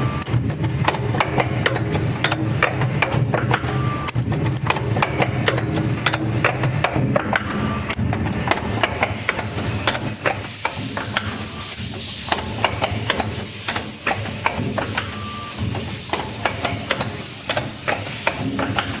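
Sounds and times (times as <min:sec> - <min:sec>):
machine metal clicks and knocks: 0:00.2 - 0:19.0.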